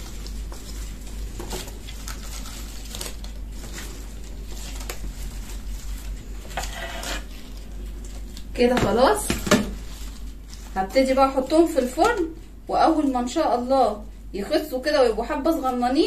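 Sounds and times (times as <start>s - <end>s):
garlic stalks rustling: 0.0s - 13.8s.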